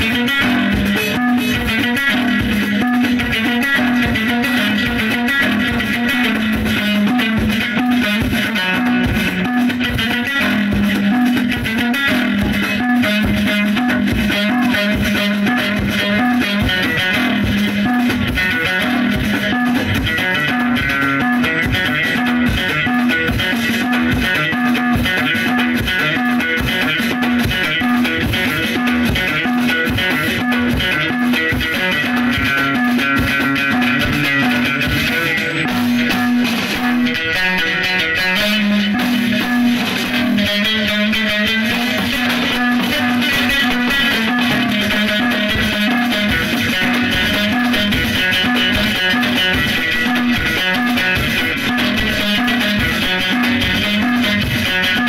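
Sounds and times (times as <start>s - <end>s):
frame drums and drum kit: 0.0s - 55.0s
plucked lutes: 0.0s - 55.0s.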